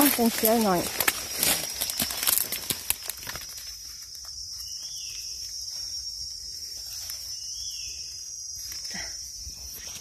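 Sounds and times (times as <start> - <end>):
dry leaves crackling underfoot: 0.0 - 8.9
forest insects droning: 0.0 - 10.0.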